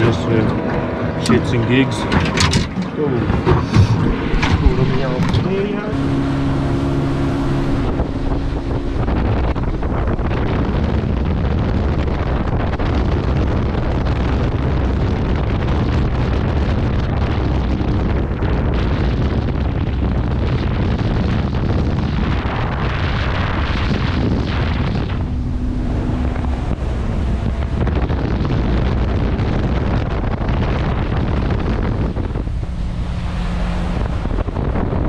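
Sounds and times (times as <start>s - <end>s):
boat moving through water: 0.0s - 35.0s
wind buffeting microphone: 0.0s - 35.0s.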